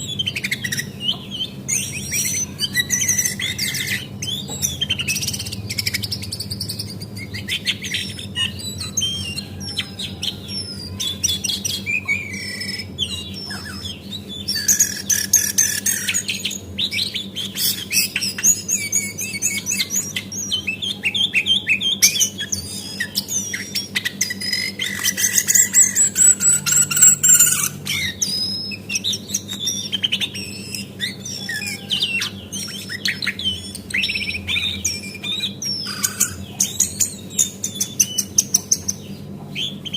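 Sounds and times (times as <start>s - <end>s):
bird singing chirps and trills: 0.0s - 39.9s
steady low hum: 0.0s - 39.9s.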